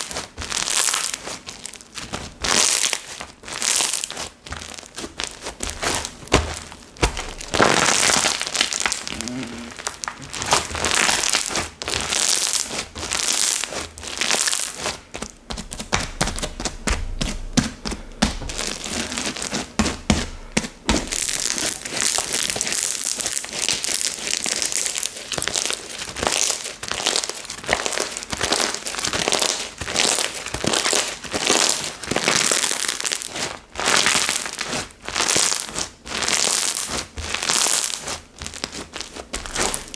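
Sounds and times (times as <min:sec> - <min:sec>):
slime squelching and crackling: 0:00.0 - 0:39.9.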